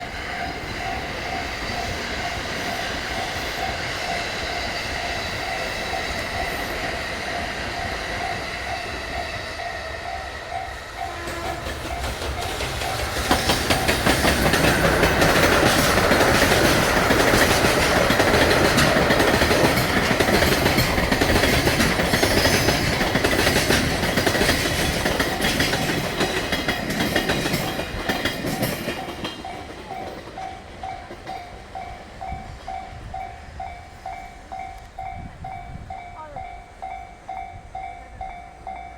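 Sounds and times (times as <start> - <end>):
train wheels clattering over joints: 0.0 - 35.1.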